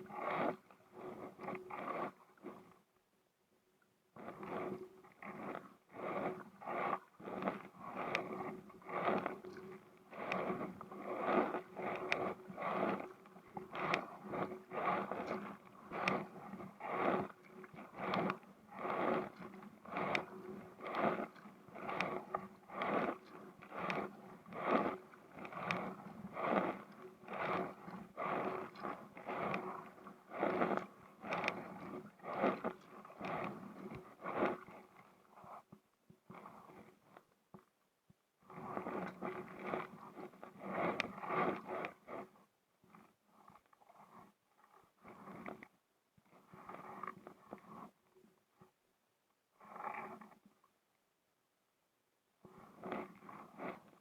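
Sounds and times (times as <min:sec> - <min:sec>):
kayak paddle strokes in water: 0:00.0 - 0:02.9, 0:04.1 - 0:37.4, 0:38.4 - 0:48.8, 0:52.5 - 0:54.0.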